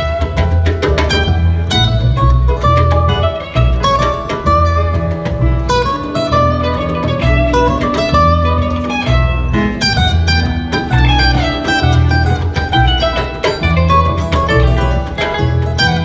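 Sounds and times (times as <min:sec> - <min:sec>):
drums: 0:00.0 - 0:16.0
pulsing bass line: 0:00.0 - 0:16.0.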